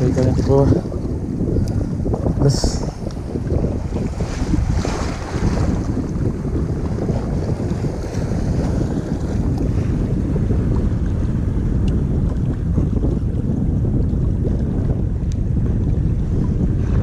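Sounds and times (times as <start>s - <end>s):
choppy sea water: 0.0s - 17.0s
wind buffeting microphone: 0.0s - 17.0s.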